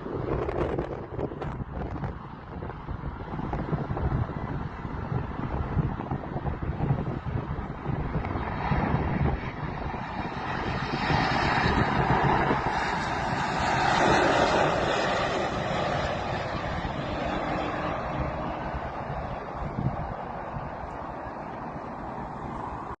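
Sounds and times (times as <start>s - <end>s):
jet airliner flying overhead: 0.0s - 23.0s
wind buffeting microphone: 0.0s - 23.0s.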